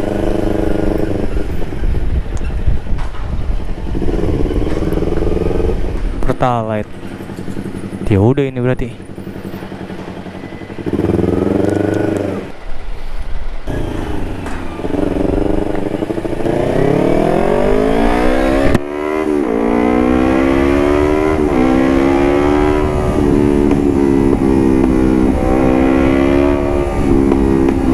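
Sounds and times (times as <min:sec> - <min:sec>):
motorcycle engine revving: 0:00.0 - 0:02.8, 0:03.4 - 0:12.7, 0:13.6 - 0:27.9.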